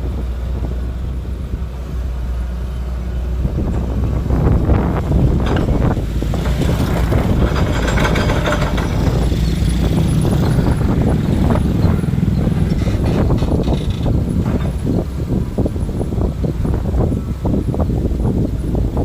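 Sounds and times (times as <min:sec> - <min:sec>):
excavator diesel engine rumbling: 0:00.0 - 0:19.0.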